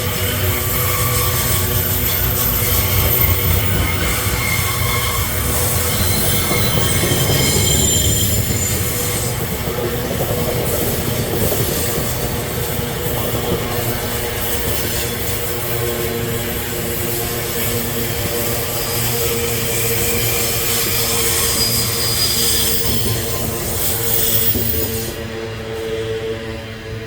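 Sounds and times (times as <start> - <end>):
freight train rumbling: 0.0 - 27.0
train wheels squealing on rails: 0.0 - 27.0.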